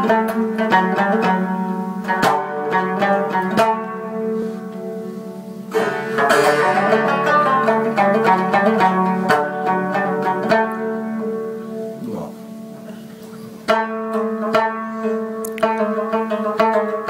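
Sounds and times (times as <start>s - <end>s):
plucked rubab: 0.0s - 17.0s.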